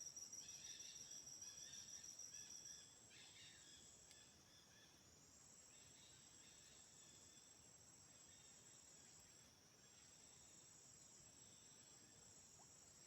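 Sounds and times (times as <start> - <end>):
insect chirps: 0.0 - 13.0.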